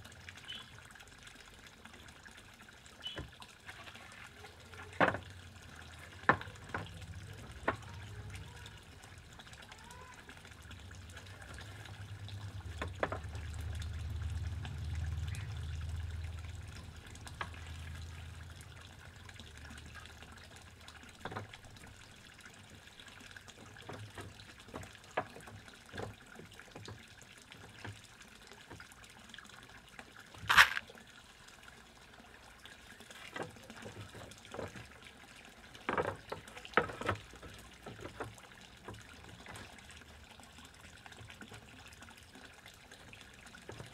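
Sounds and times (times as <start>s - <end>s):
water trickling: 0.0s - 43.9s.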